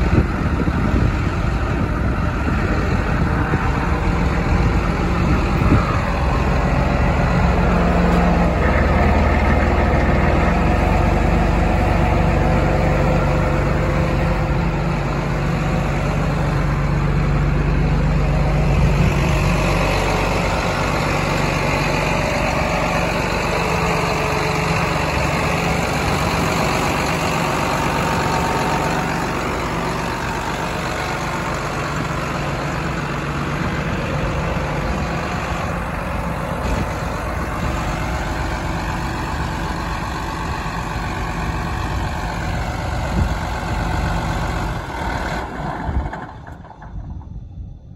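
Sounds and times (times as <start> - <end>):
tractor diesel engine idling: 0.0 - 47.9.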